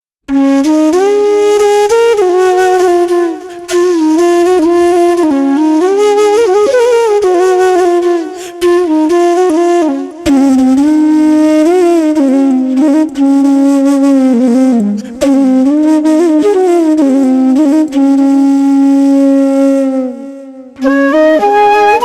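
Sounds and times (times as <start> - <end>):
solo flute melody: 0.3 - 22.0.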